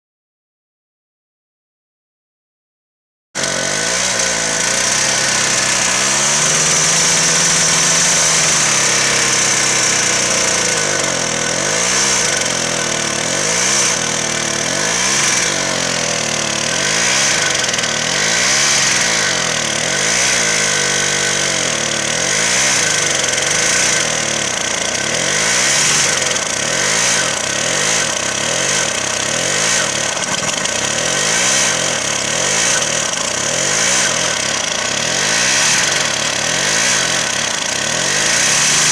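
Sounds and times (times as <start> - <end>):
tractor engine revving: 3.4 - 38.9.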